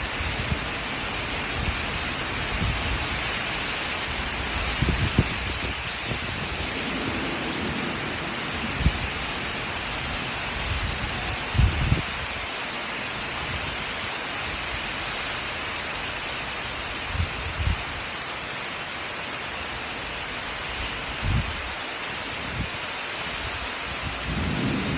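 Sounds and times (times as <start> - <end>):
steady rain: 0.0 - 24.9.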